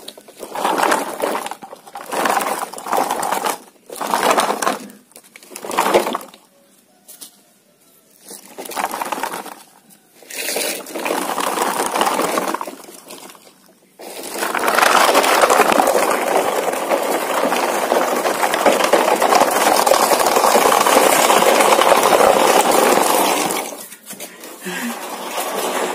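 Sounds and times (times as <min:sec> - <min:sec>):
toy truck scraping over dirt: 0:00.0 - 0:06.4, 0:08.2 - 0:25.9.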